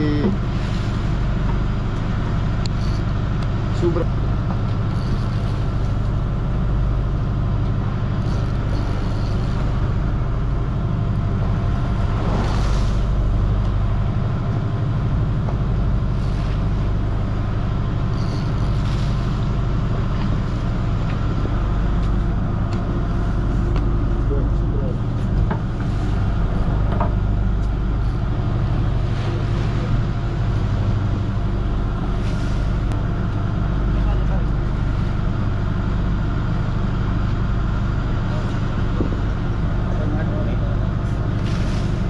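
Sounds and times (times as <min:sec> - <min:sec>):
boat motor humming: 0:00.0 - 0:42.0.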